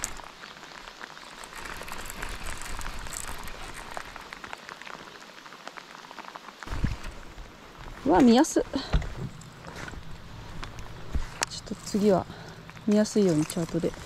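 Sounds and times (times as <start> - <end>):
heavy rain: 0.0 - 11.4.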